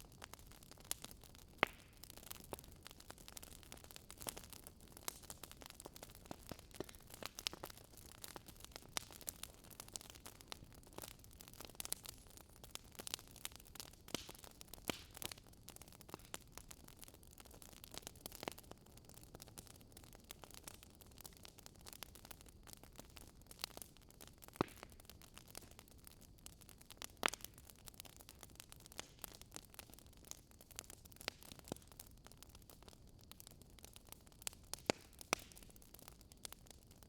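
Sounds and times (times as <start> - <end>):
faint steady hiss: 0.0 - 37.0
wood fire crackling: 0.0 - 37.0.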